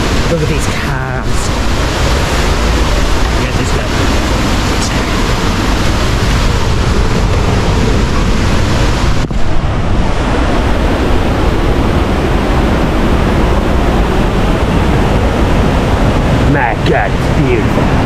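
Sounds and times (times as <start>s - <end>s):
rush of falling water: 0.0s - 18.0s.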